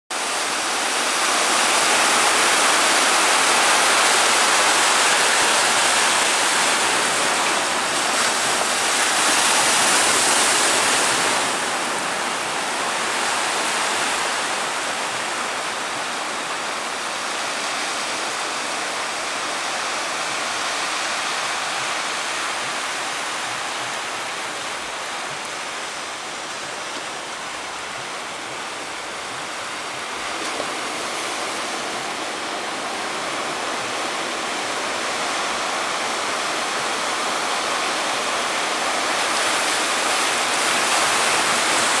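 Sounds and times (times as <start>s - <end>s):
ocean waves breaking: 0.1s - 42.0s.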